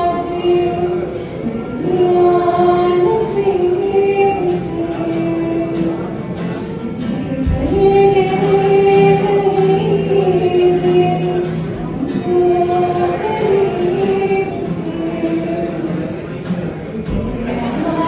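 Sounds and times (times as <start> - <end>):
strummed acoustic guitar: 0.0 - 18.0
woman singing: 0.0 - 18.0.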